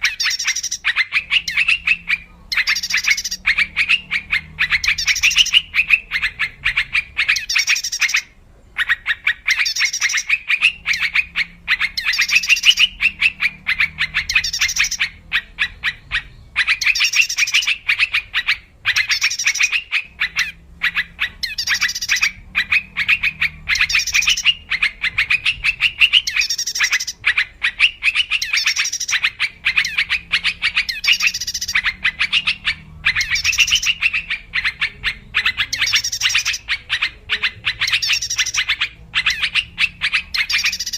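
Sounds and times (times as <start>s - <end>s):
bird chattering calls: 0.0s - 40.9s.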